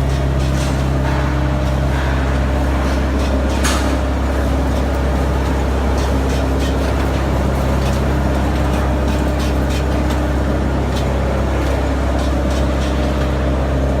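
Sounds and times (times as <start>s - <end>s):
wood chipper running: 0.0s - 14.0s.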